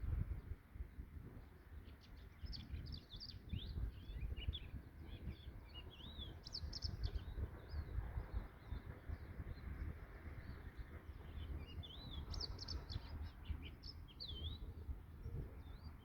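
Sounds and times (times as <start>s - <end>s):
songbirds chirping and trilling: 0.2s - 16.0s.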